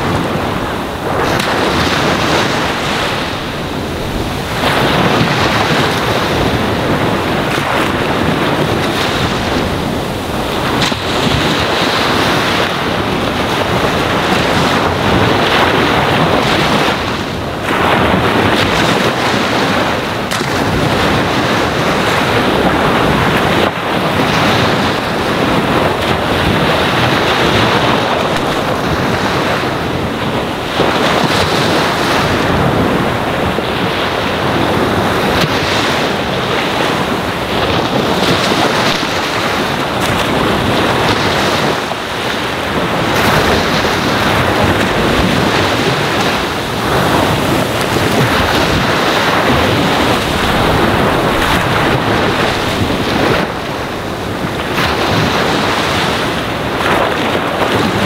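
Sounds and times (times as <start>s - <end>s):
ocean waves on shore: 0.0s - 58.0s.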